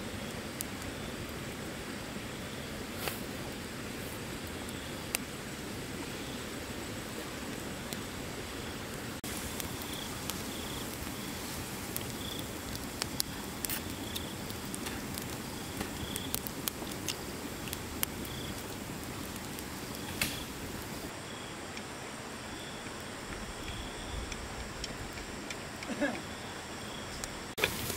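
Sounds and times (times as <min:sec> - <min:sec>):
wood fire crackling: 0:00.0 - 0:21.8, 0:22.4 - 0:27.9.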